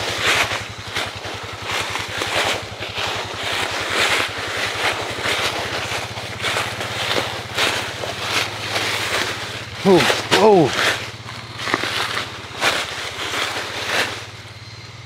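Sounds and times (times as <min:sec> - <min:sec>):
atv engine idling: 0:00.0 - 0:15.0
footsteps on dry leaves: 0:00.0 - 0:15.0.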